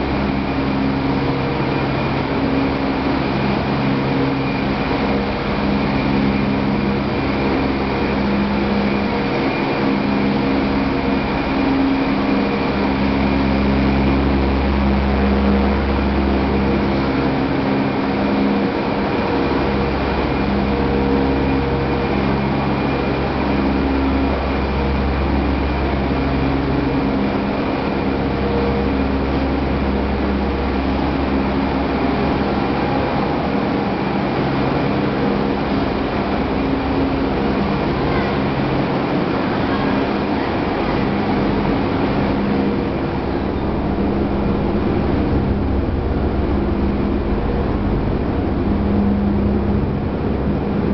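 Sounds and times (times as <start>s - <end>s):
low drone: 0.0s - 50.9s
machinery hum and hiss: 0.0s - 50.9s.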